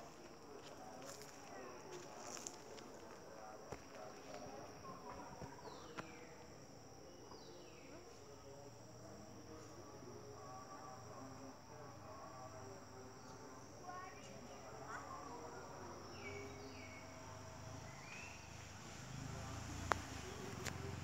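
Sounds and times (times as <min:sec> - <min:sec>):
insect chorus droning: 0:00.0 - 0:21.0.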